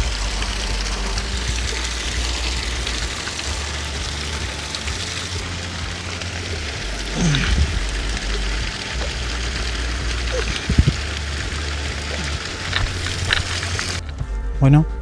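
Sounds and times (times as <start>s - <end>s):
water splashing onto wet rocks: 0.0s - 14.0s
low falling-pitch sound: 0.0s - 15.0s.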